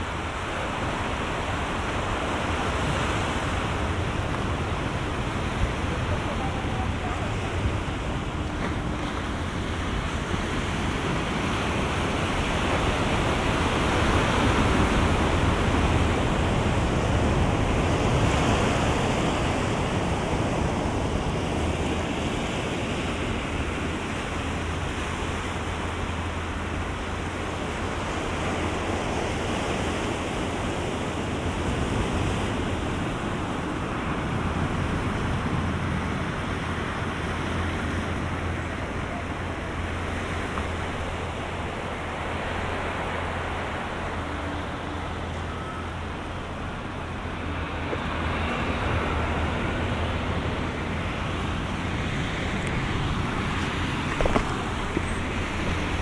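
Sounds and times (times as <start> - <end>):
ocean waves breaking on beach: 0.0 - 56.0
wind rumble on microphone: 0.0 - 56.0.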